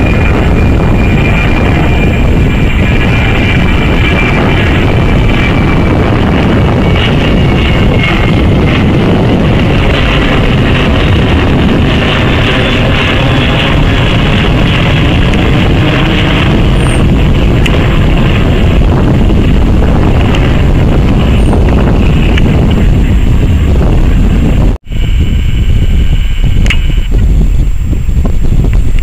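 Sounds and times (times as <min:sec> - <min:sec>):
distant jet engine whine: 0:00.0 - 0:29.0
jet engines passing overhead: 0:00.0 - 0:29.0
wind on microphone: 0:00.0 - 0:29.0.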